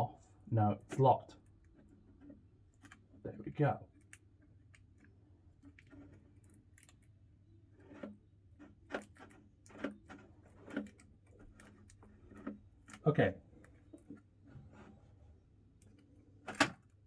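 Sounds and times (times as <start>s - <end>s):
plastic clicks and scrapes: 0.8s - 3.3s, 3.9s - 17.0s.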